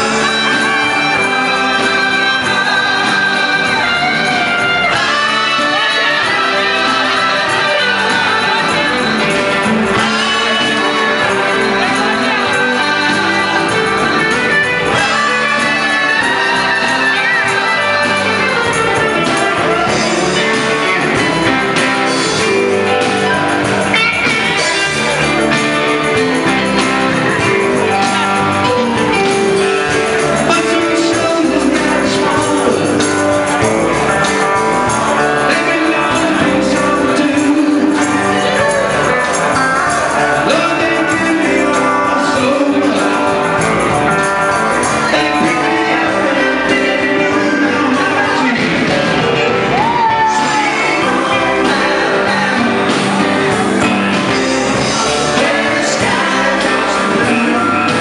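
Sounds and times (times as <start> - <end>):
rock band playing: 0.0 - 58.0.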